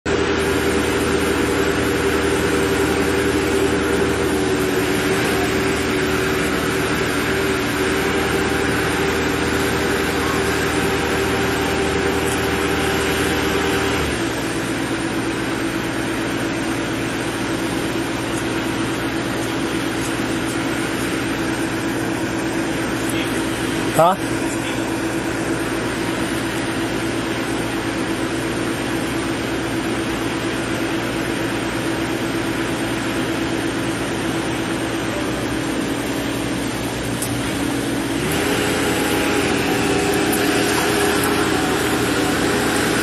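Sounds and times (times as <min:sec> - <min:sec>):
engine droning: 0:00.1 - 0:43.0.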